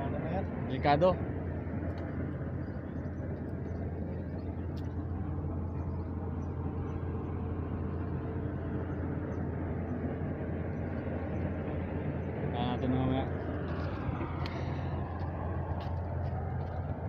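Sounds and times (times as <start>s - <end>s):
faint steady hum: 0.0s - 17.0s
low outdoor rumble: 0.0s - 17.0s.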